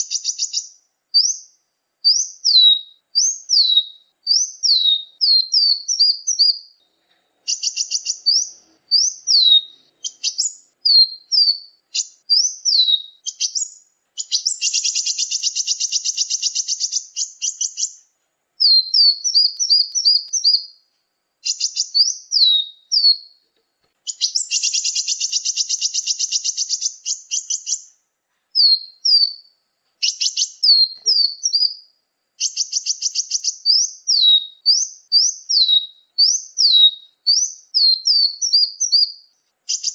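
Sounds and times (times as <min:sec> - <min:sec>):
buzzy bird trill: 0:00.0 - 0:23.4, 0:24.0 - 0:39.9
songbirds whistling: 0:00.0 - 0:23.4, 0:24.0 - 0:39.9.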